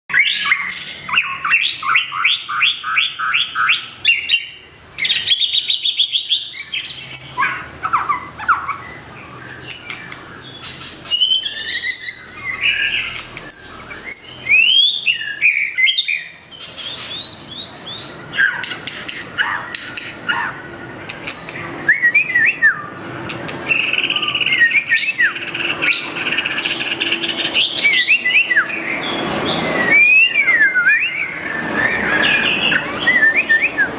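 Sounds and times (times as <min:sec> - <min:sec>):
bird singing varied song: 0:00.1 - 0:33.9.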